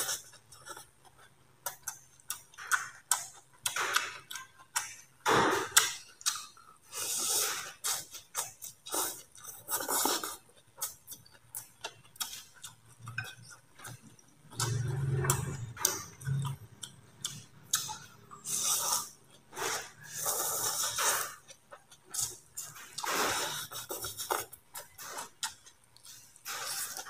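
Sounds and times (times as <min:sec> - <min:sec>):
wet chewing: 0:00.0 - 0:27.0.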